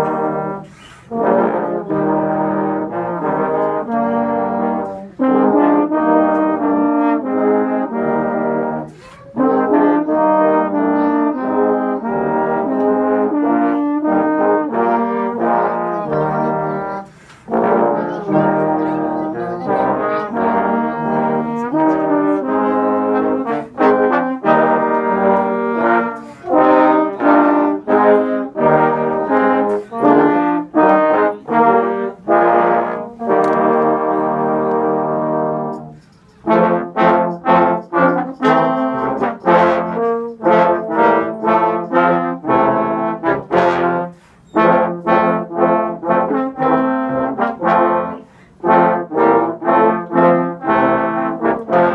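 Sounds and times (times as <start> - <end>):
trombones playing in harmony: 0.0 - 51.9.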